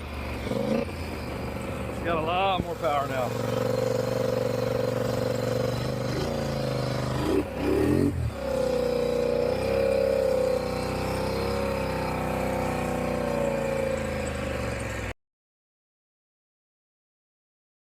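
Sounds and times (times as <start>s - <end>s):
atv engine running: 0.0s - 15.1s.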